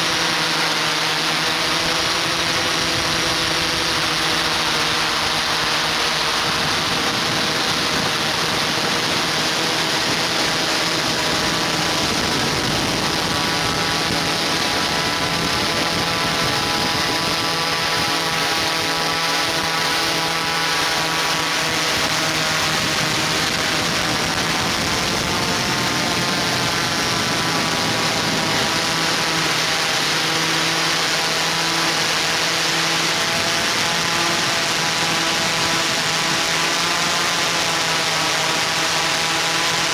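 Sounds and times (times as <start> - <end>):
drone propellers humming: 0.0 - 39.9
windy hiss: 0.0 - 39.9.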